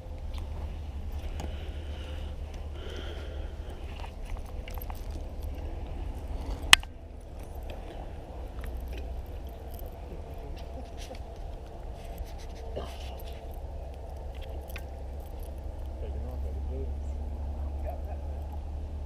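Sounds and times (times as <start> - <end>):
steady low rumble: 0.0 - 19.0
faint ticks and scrapes: 0.2 - 18.6.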